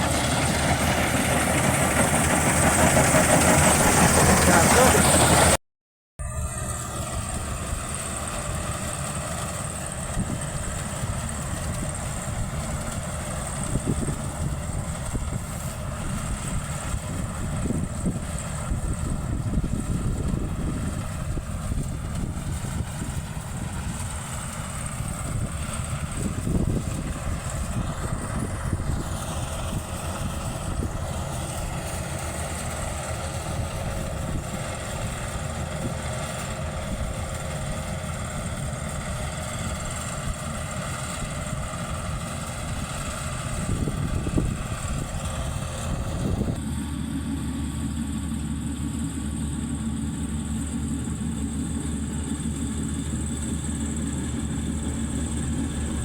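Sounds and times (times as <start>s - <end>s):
combine harvester engine drone: 0.0s - 5.6s, 6.2s - 56.0s.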